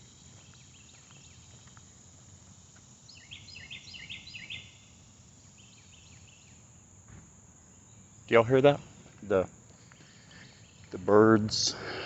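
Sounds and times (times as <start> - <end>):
faint background hum: 0.0 - 12.0
songbird singing: 0.0 - 12.0.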